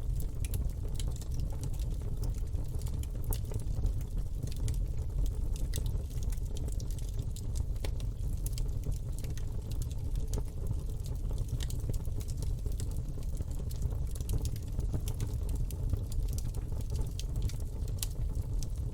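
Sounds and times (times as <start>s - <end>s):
campfire crackling and popping: 0.1s - 18.9s.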